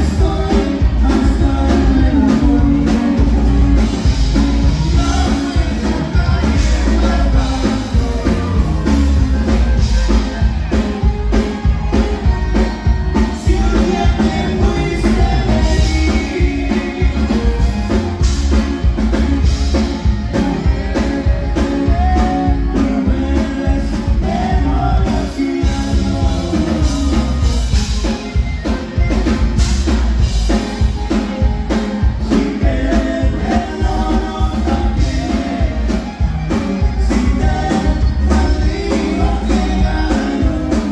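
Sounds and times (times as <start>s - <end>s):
person singing: 0.0s - 28.2s, 31.2s - 40.9s
button accordion: 0.0s - 40.9s
conjunto band playing dance music: 0.0s - 40.9s
steady drum beat: 0.0s - 40.9s.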